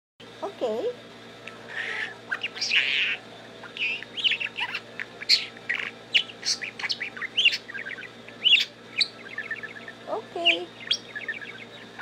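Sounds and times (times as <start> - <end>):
budgie chattering: 1.5 - 12.0.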